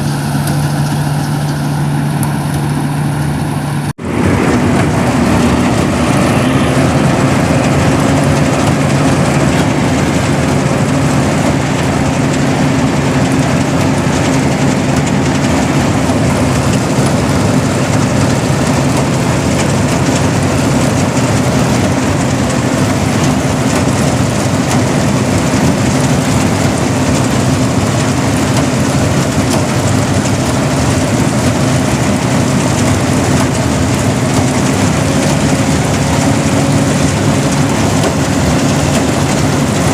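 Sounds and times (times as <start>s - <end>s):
continuous rushing noise: 0.0s - 39.9s
harvester engine humming: 0.0s - 39.9s.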